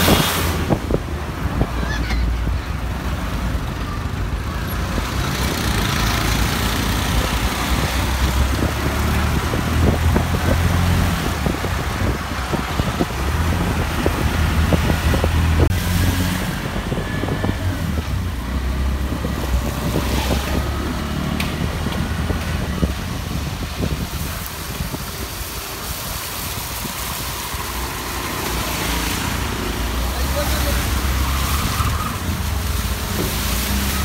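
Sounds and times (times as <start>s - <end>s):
low traffic rumble: 0.0s - 34.0s
vehicle engines passing: 0.0s - 34.0s.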